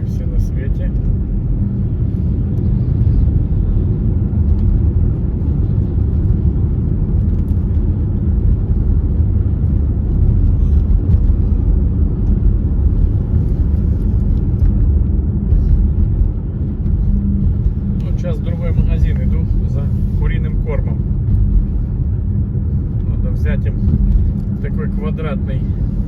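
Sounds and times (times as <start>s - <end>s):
road and wind noise in car: 0.0s - 26.0s.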